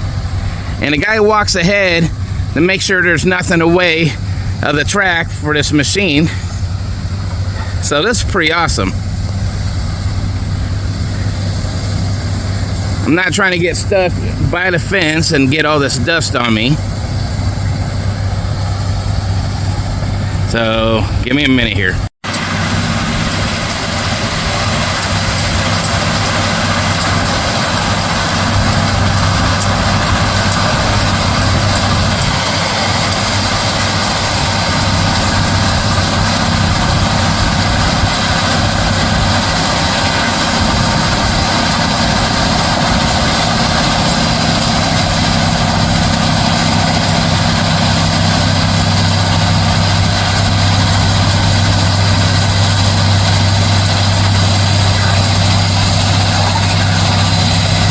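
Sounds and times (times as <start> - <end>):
heavy diesel machinery running: 0.0 - 57.9.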